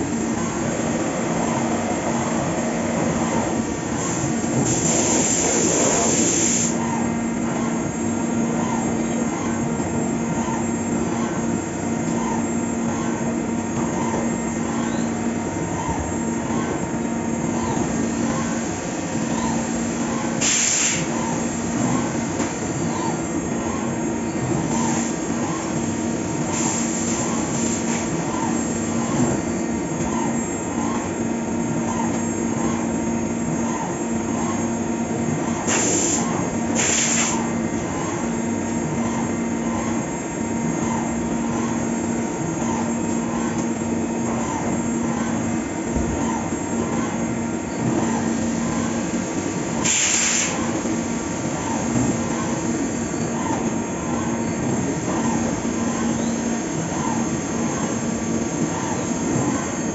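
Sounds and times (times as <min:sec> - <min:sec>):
milling machine hum: 0:00.0 - 0:59.9.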